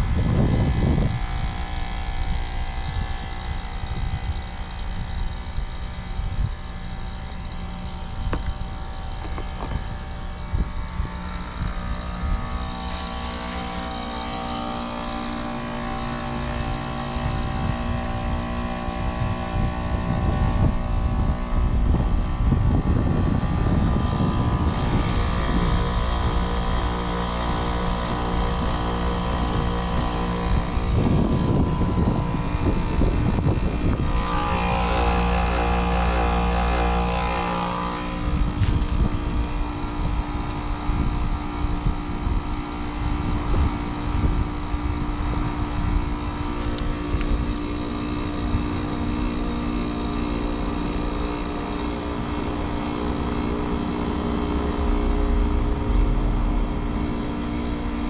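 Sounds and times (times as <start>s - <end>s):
heat pump compressor and fan hum: 0.0s - 58.0s.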